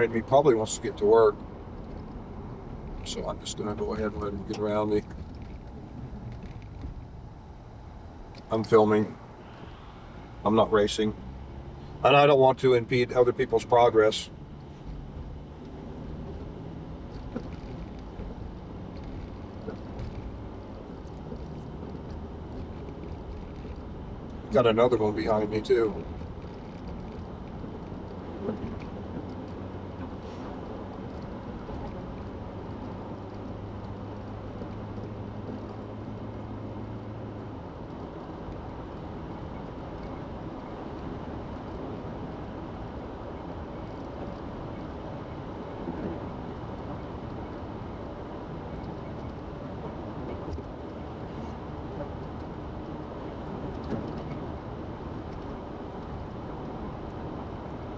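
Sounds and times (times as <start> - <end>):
road and engine rumble: 0.0 - 57.9.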